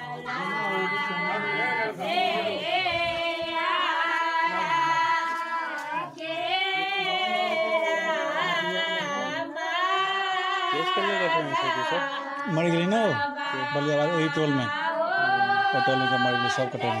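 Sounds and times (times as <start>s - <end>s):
women singing unaccompanied: 0.0s - 17.0s.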